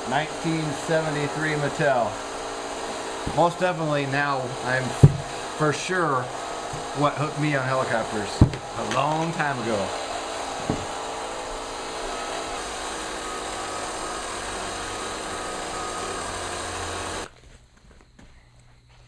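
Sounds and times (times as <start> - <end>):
toy helicopter motor whirring: 0.0 - 17.3.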